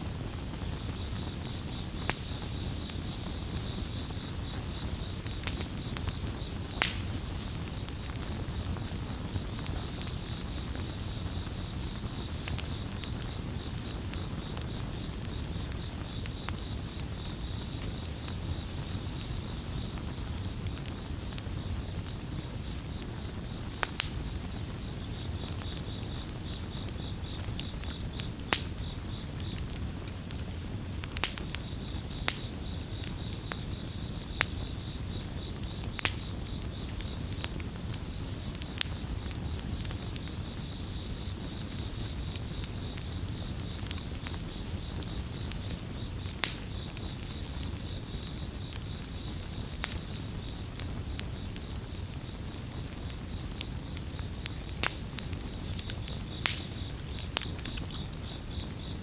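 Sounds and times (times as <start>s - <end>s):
campfire crackling: 0.0s - 59.0s
crickets chirping: 0.0s - 59.0s.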